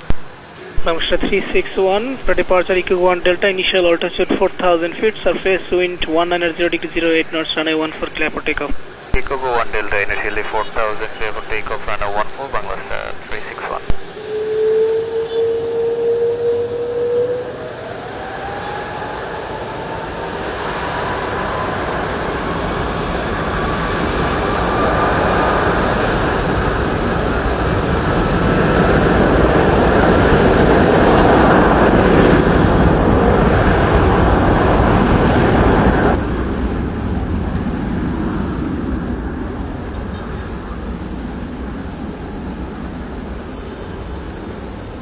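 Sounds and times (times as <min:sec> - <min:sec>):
jet engine roar: 0:00.0 - 0:45.0.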